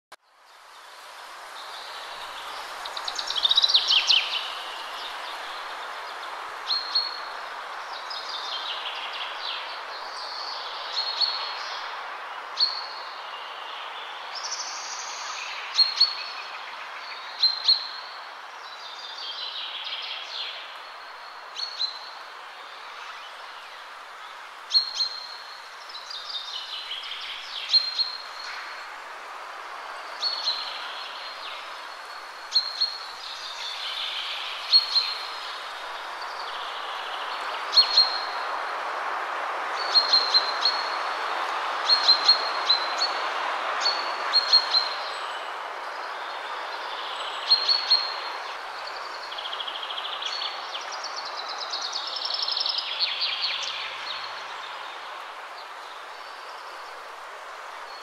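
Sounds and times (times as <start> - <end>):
steady background hiss: 0.2 - 58.0.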